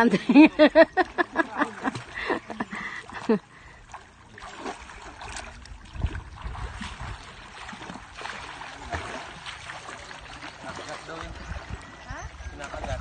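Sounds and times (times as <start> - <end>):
water splashing and lapping: 0.0 - 13.0.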